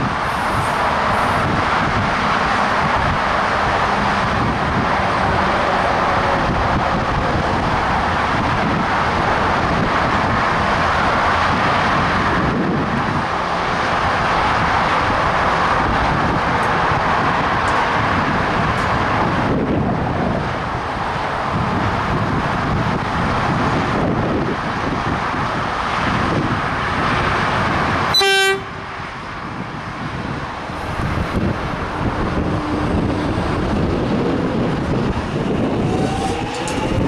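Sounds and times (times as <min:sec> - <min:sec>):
freeway traffic: 0:00.0 - 0:37.0
wind buffeting microphone: 0:00.0 - 0:37.0.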